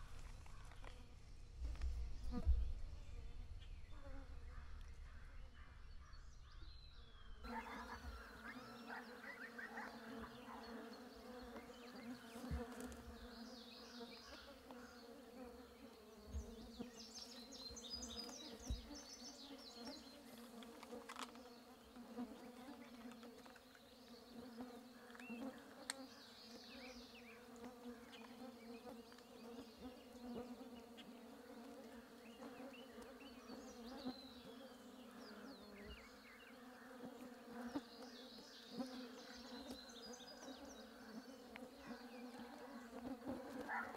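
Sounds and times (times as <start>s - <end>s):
gnats buzzing: 0.0s - 5.0s, 7.5s - 38.0s.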